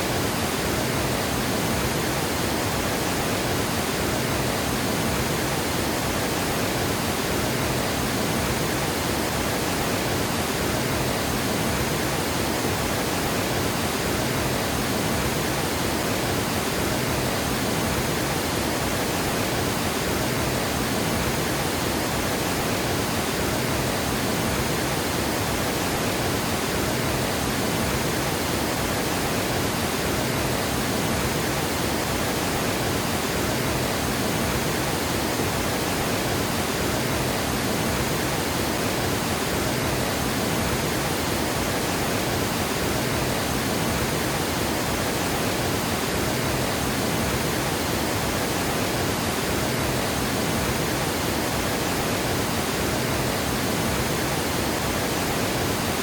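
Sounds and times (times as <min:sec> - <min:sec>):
water gushing over a dam: 0:00.0 - 0:56.0.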